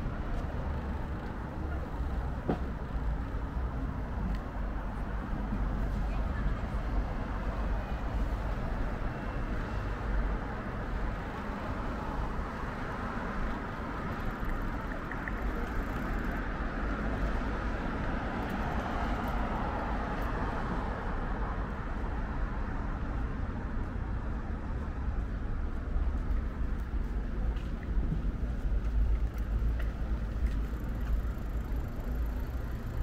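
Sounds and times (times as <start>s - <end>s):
passing cars: 0.0s - 33.0s.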